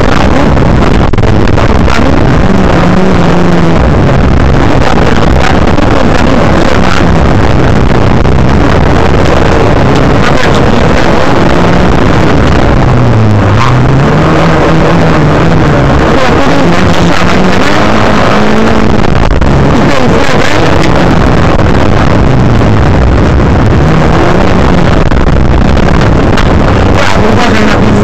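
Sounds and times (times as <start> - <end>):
rally car engine revving: 0.0 - 28.0
road and tyre noise: 0.0 - 28.0.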